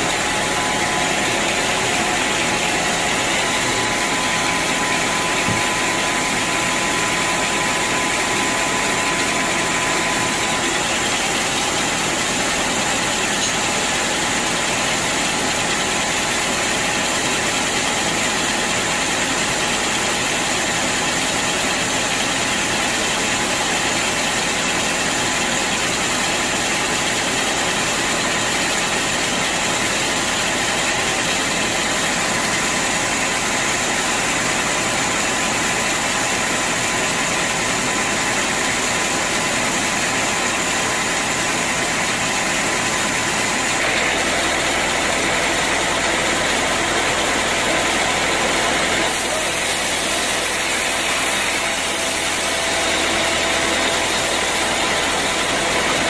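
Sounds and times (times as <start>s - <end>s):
band sawmill running: 0.0s - 56.0s.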